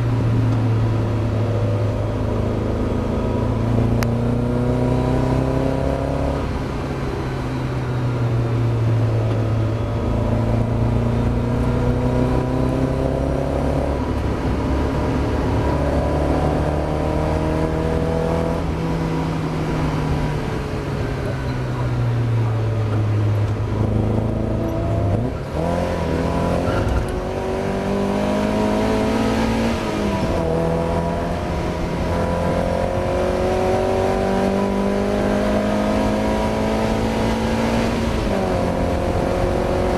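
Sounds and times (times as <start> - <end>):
race car engine revving: 1.4 - 6.6, 8.9 - 39.9.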